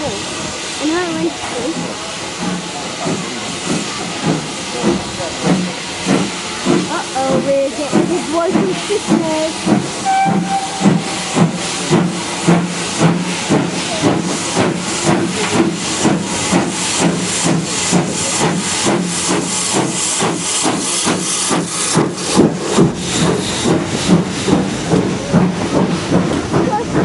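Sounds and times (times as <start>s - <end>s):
steam locomotive exhaust chuffing: 0.0s - 27.0s.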